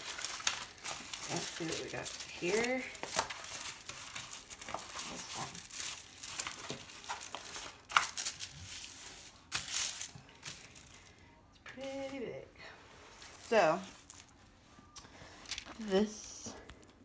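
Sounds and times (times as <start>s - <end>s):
plastic film crinkling: 0.0s - 11.9s, 13.2s - 16.0s.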